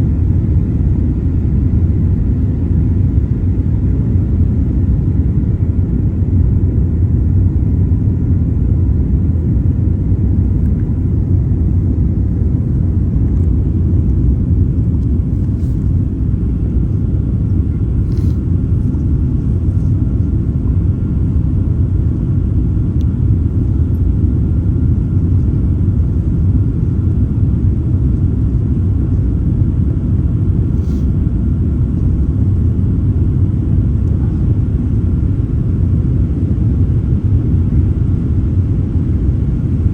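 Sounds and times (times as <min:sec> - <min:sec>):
airliner takeoff rumble: 0:00.0 - 0:39.9
faint steady whine: 0:00.0 - 0:39.9.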